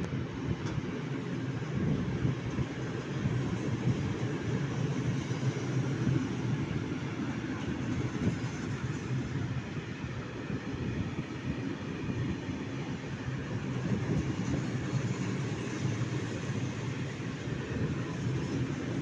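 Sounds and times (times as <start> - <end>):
train rolling past: 0.0 - 19.0.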